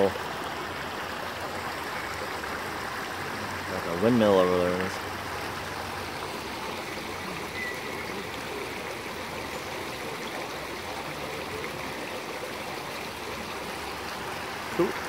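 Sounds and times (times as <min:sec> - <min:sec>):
waterfall and stream rushing: 0:00.0 - 0:15.0.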